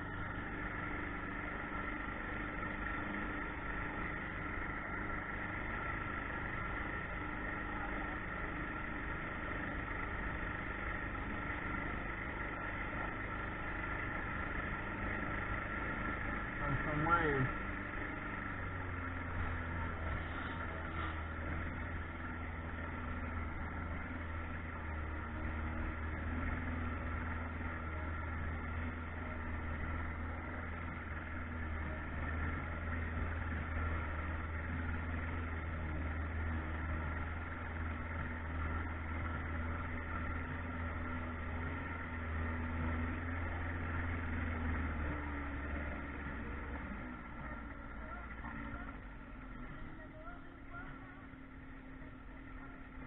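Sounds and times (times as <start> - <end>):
boat motor droning: 0.0 - 53.0.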